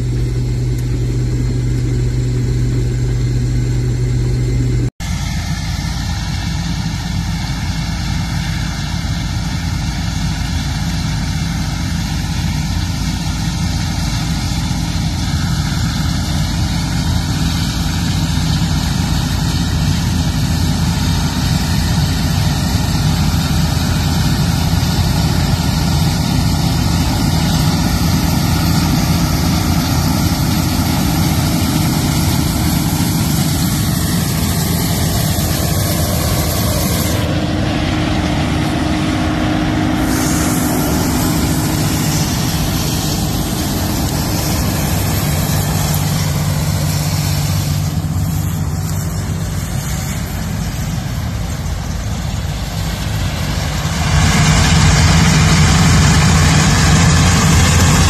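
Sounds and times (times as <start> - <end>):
combine harvester engine humming: 0.0 - 58.0.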